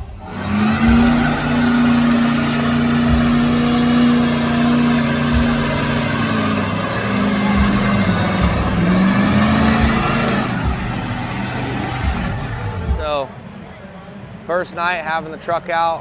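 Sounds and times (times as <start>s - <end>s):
truck engine revving high: 0.0s - 13.3s.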